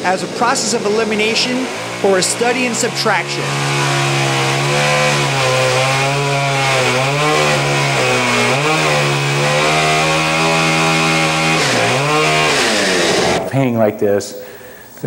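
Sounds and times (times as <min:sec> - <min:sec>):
chainsaw cutting plywood: 0:00.0 - 0:13.5.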